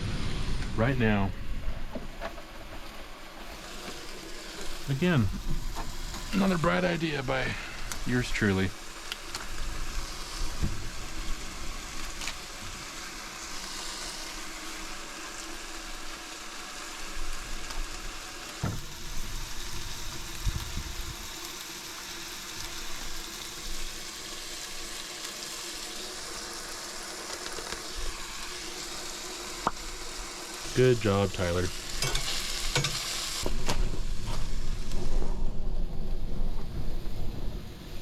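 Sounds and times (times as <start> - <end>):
food sizzling in a pan: 0.0 - 35.4.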